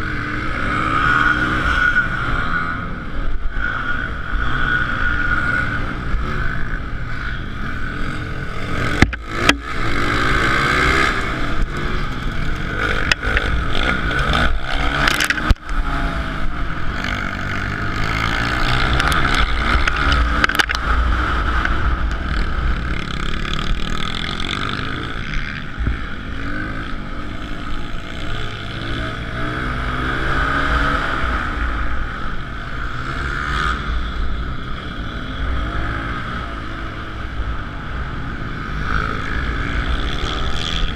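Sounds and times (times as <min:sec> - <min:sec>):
motorbike engine revving: 0:03.6 - 0:40.9.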